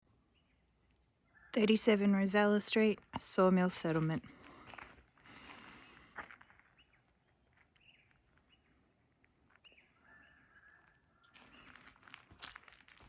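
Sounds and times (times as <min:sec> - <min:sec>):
faint birds chirping: 0:00.0 - 0:12.5.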